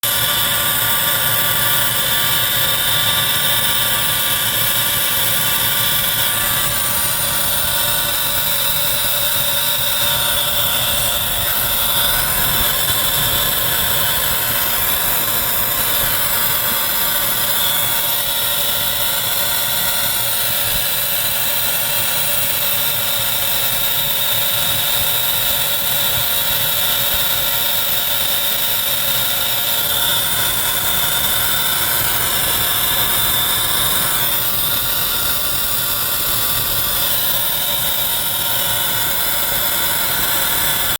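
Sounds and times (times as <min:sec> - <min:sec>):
heat pump compressor hum: 0:00.0 - 0:40.9
high-pitched whine: 0:00.0 - 0:40.9.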